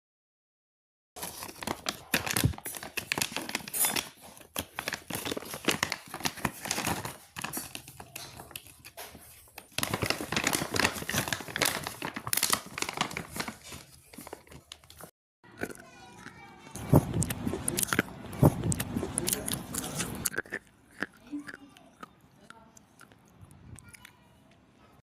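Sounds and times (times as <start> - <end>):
crinkling and crumpling: 1.2 - 24.4.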